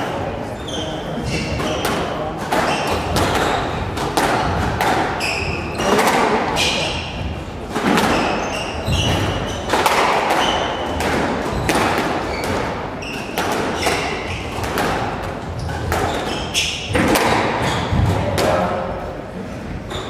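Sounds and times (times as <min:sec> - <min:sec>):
sneaker squeaks on wooden floor: 0:00.5 - 0:07.0, 0:07.9 - 0:18.2, 0:19.7 - 0:20.0
squash ball hitting rackets and walls: 0:00.7 - 0:19.1.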